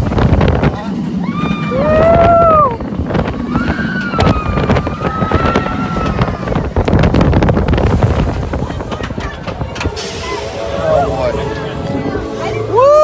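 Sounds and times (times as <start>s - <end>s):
wind buffeting the microphone: 0.0s - 12.7s
roller coaster wheels clattering: 0.0s - 13.0s.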